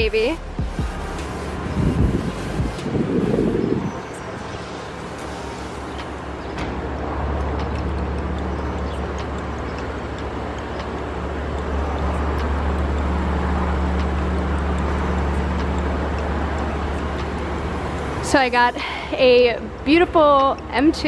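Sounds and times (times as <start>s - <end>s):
car engine drone: 0.0s - 21.0s.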